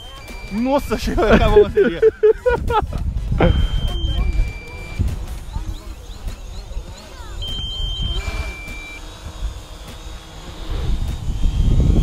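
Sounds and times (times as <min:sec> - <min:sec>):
electronic warning beeps: 0:00.0 - 0:02.2, 0:03.4 - 0:12.0.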